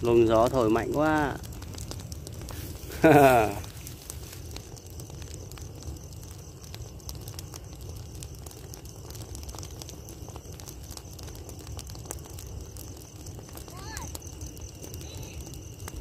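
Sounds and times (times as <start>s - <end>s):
burning straw crackling and popping: 0.0s - 16.0s.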